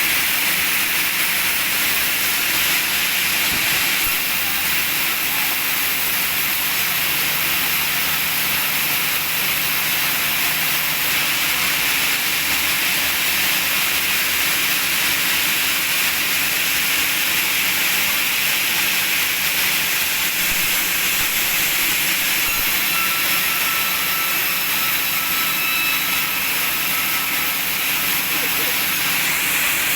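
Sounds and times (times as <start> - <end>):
sawmill machinery hissing: 0.0 - 29.9.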